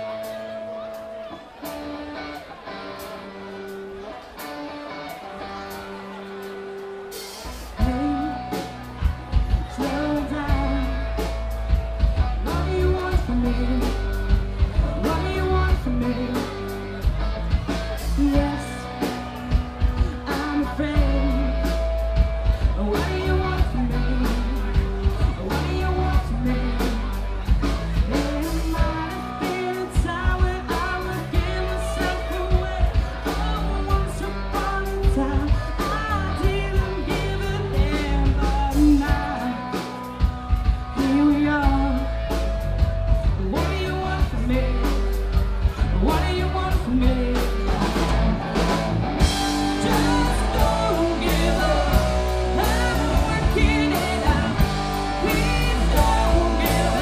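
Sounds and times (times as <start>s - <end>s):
rock band playing: 0.0s - 57.0s
lead vocal singing: 5.2s - 57.0s.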